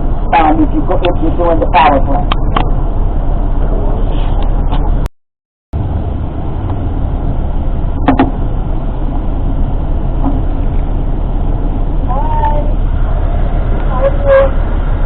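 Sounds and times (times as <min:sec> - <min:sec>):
bus engine rumble: 0:00.0 - 0:05.1, 0:05.8 - 0:15.0.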